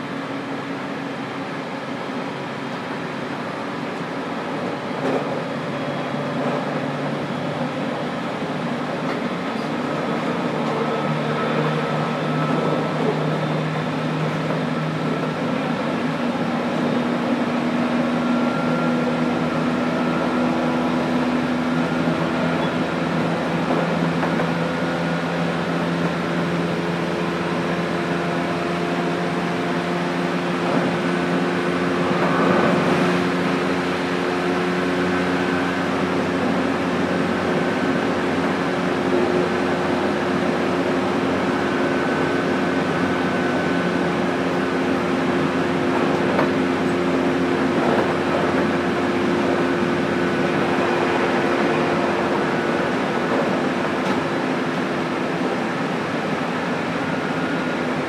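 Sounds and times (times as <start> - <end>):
electric train motor hum: 0.0 - 58.0
wheel and track noise: 0.0 - 58.0.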